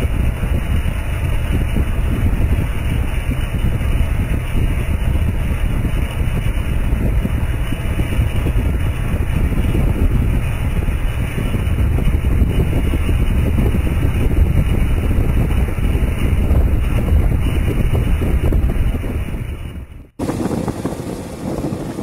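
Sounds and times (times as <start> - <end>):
motorcycle engine: 0.0 - 22.0
road noise: 0.0 - 22.0
wind rumble on microphone: 0.0 - 22.0.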